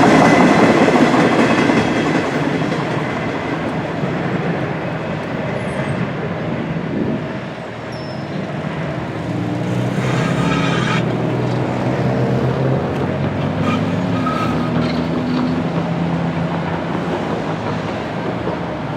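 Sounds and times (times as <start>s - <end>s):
heavy vehicle engines rumbling: 2.3s - 18.9s.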